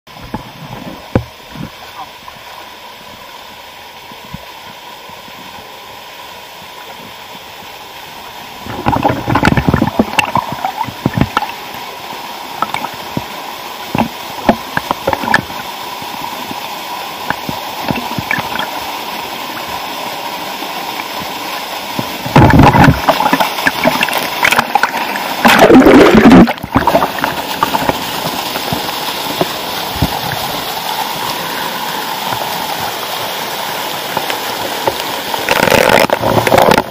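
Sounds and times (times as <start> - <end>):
waterfall pouring into pool: 0.1 - 36.9.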